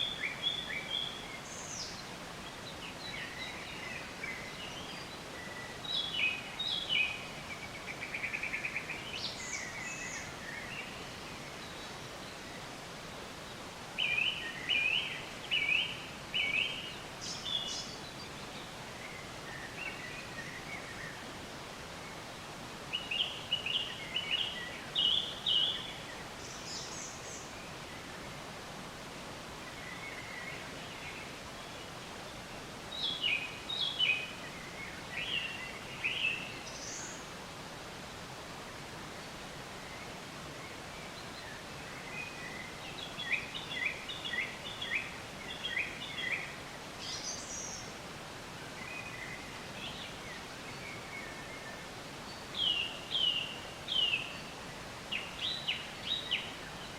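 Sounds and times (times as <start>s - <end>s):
outdoor hiss: 0.0s - 56.9s
songbirds chirping: 0.0s - 56.9s.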